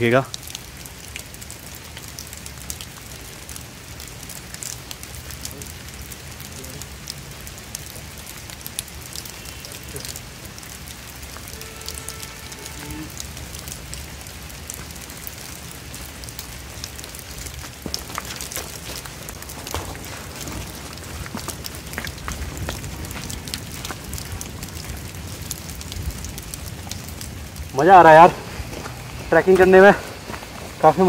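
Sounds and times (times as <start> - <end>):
rain falling: 0.0 - 31.0
raindrop ticks: 0.0 - 31.0.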